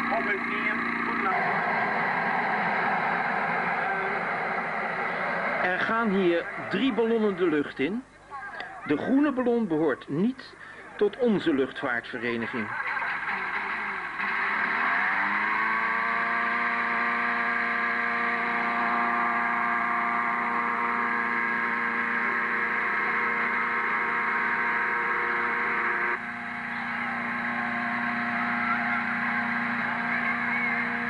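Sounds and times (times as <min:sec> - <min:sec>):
engine-driven inflator fan running: 0:00.0 - 0:07.8, 0:12.7 - 0:31.0.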